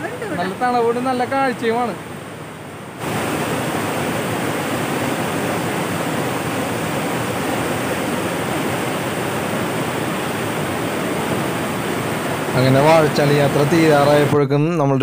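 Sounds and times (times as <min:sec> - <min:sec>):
water rushing over rock ledges: 0:00.0 - 0:14.4.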